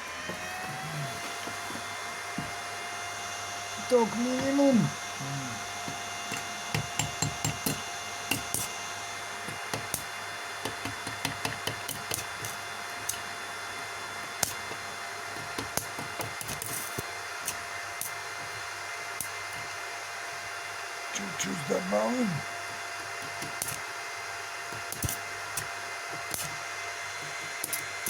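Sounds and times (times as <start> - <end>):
welder fan hum and whine: 0.0 - 28.0.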